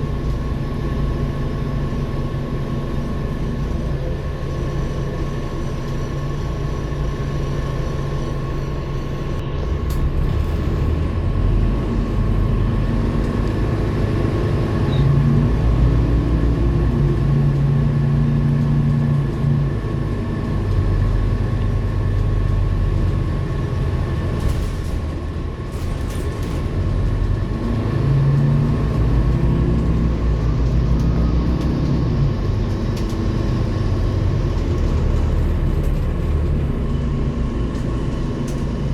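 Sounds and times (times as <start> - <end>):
bus diesel engine accelerating: 0.0 - 38.9.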